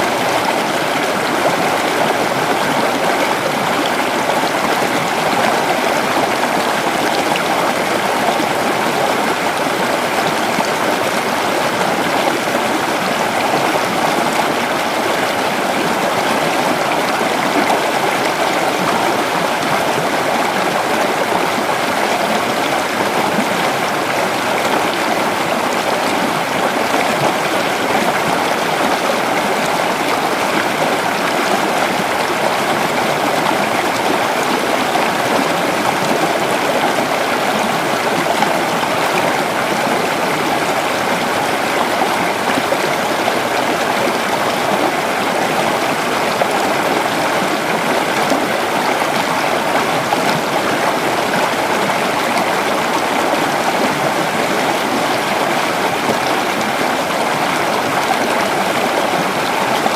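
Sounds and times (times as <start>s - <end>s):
creek water flowing over rocks: 0.0s - 59.9s.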